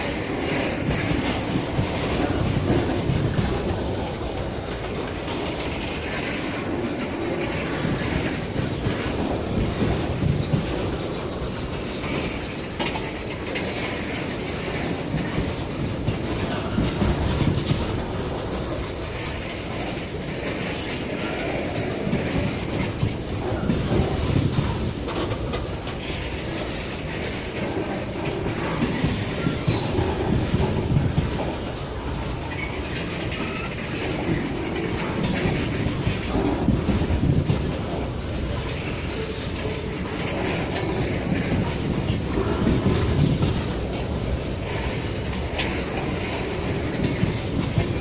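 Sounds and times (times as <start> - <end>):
freight train rumble: 0.0 - 48.0
train wheels clicking over rail joints: 0.0 - 48.0.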